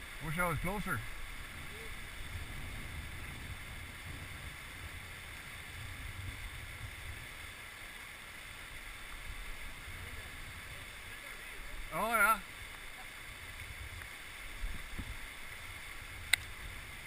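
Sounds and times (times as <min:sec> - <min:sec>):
river rushing through rapids: 0:00.0 - 0:17.0.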